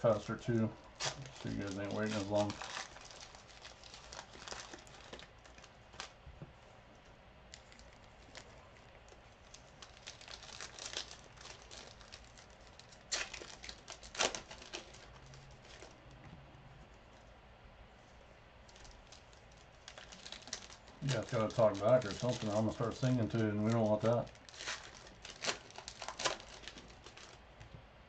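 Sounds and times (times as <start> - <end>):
card pack wrappers crinkling: 0.0 - 6.2, 7.5 - 16.1, 18.6 - 27.4
wrapper ripping: 0.0 - 6.2, 7.5 - 16.0, 18.7 - 27.4.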